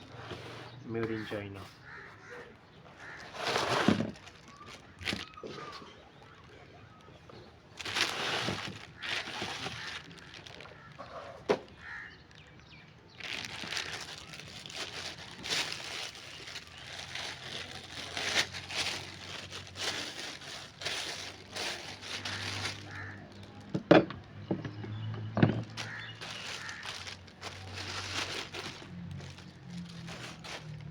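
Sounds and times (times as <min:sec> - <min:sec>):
packaging rustling and crinkling: 0:03.0 - 0:23.7, 0:25.3 - 0:30.9.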